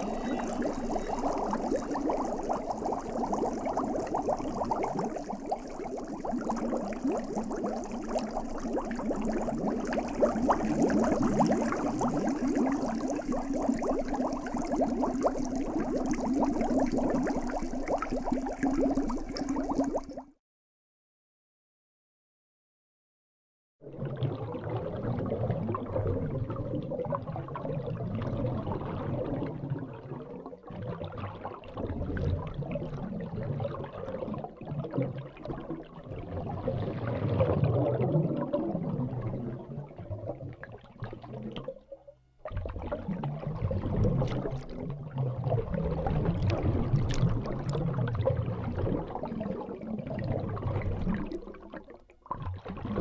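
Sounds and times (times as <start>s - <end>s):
liquid pouring and gurgling: 0.0s - 20.3s, 23.8s - 53.0s.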